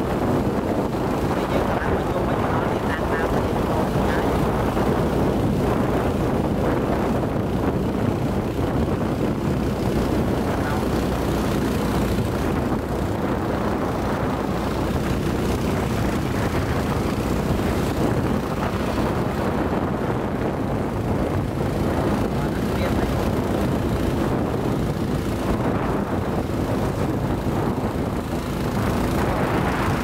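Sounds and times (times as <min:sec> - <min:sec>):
motorboat engine running: 0:00.0 - 0:30.0
wind noise on microphone: 0:00.0 - 0:30.0.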